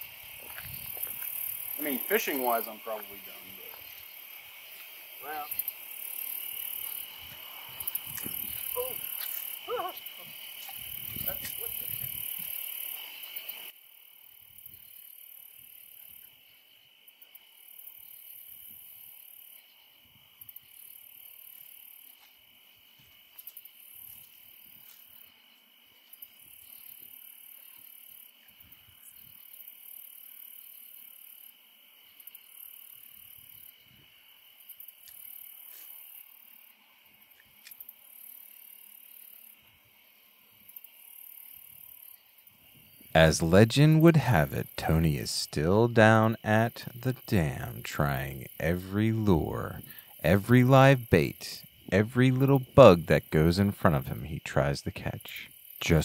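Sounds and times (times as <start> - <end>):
insects buzzing: 0.0 - 56.0
shrill insect chorus: 0.0 - 56.0.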